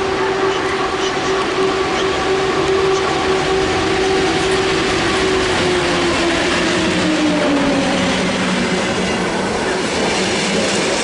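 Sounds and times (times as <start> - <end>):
train running close by: 0.0 - 11.0.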